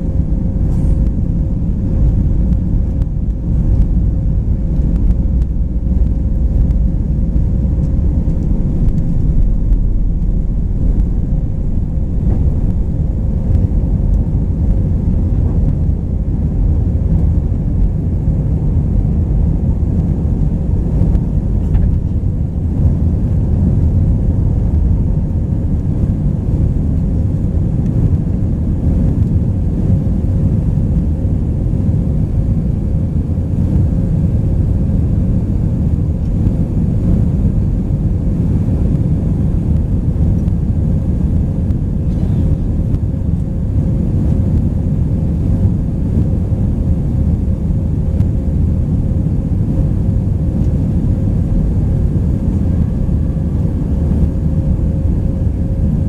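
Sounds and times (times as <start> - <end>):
airplane cabin roar: 0.0 - 56.0
steady hum: 0.0 - 56.0.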